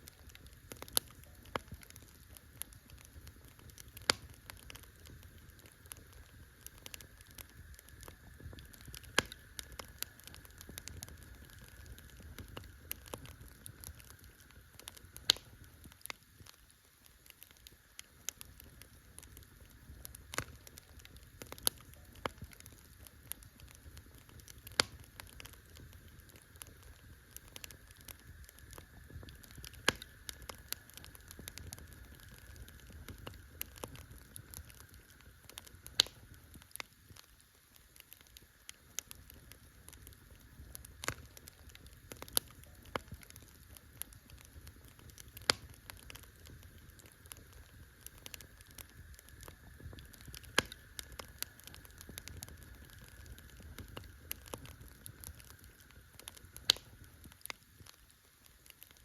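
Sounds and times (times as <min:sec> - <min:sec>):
low rush of flame: 0:00.0 - 0:58.0
campfire crackling and popping: 0:00.0 - 0:59.0.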